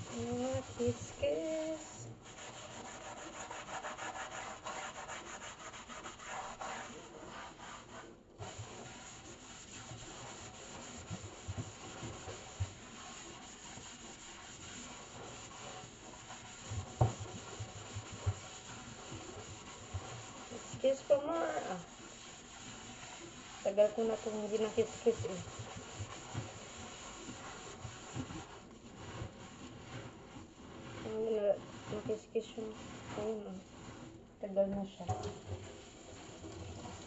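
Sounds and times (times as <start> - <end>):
scrubber rubbing steel sink: 0.0 - 37.0.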